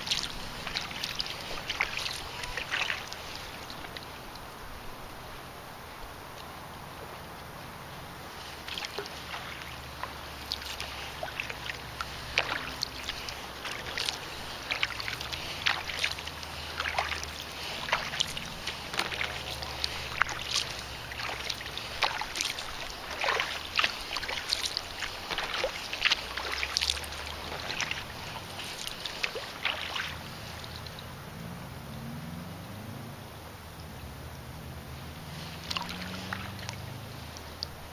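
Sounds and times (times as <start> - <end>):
paddle splashing in water: 0.0 - 32.9, 33.5 - 37.9.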